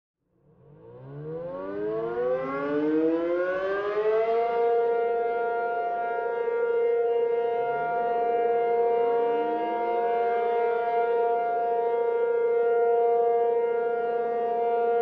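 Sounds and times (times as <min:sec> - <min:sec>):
warning siren wailing: 0:00.6 - 0:15.0.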